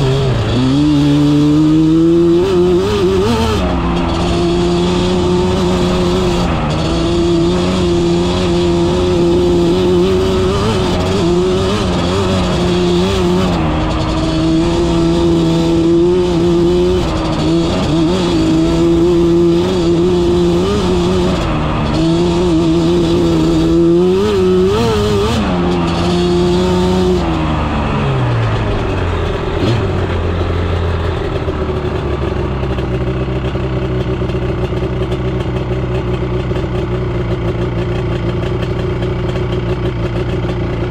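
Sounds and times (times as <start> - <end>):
two-stroke quad engine revving: 0.0 - 40.9.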